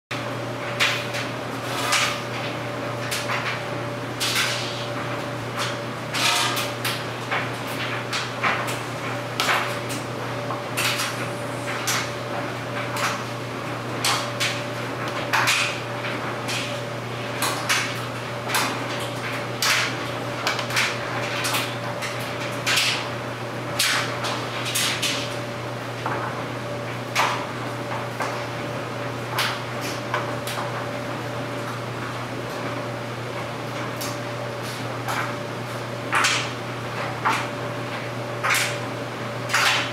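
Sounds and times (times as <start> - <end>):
clothes dryer motor hum: 0.1 - 39.9.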